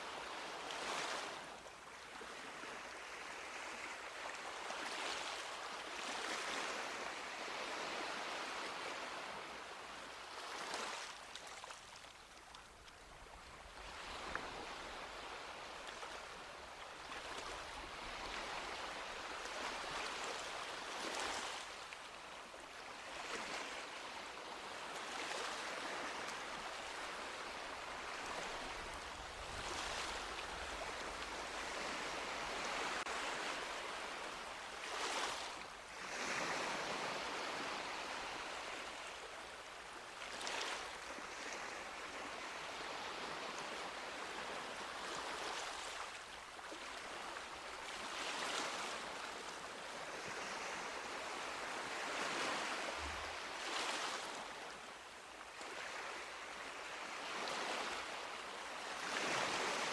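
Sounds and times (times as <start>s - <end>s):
small waves lapping on beach: 0.0s - 59.9s.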